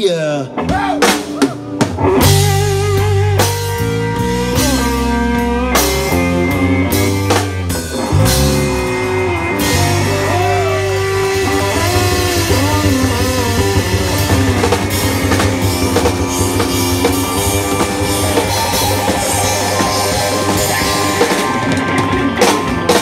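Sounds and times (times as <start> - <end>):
bass: 0.0 - 23.0
drum kit: 0.0 - 23.0
electric guitar bending notes: 0.5 - 23.0.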